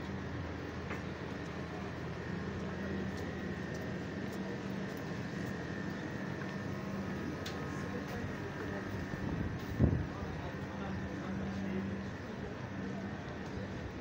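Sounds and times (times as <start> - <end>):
low drone of market street: 0.0 - 14.0.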